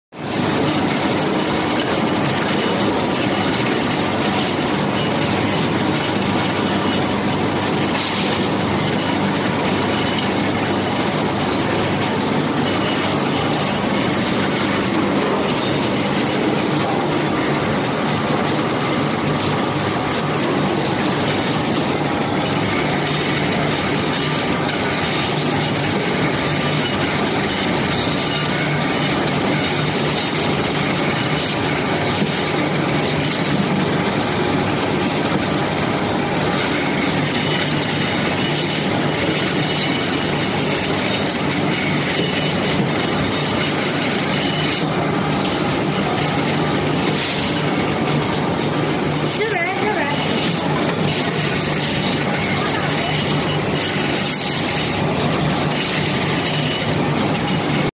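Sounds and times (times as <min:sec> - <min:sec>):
machine running steadily: 0:00.1 - 0:57.9.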